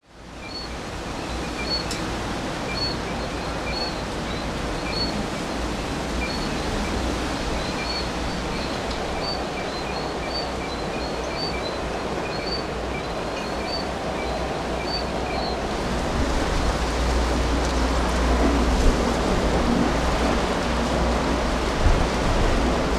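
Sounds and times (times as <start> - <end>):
rain: 0.0 - 22.9
storm wind: 0.0 - 22.9.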